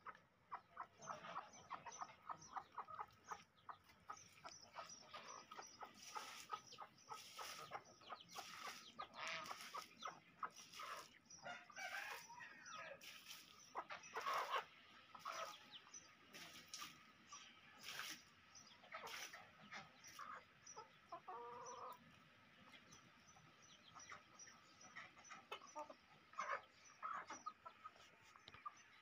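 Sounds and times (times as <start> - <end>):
chickens clucking softly: 0.0 - 29.0.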